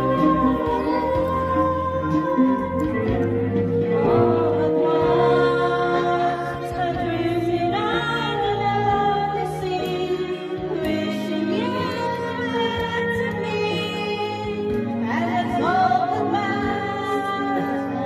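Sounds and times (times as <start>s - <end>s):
backing music: 0.0s - 18.0s
woman singing into a microphone: 0.0s - 18.0s.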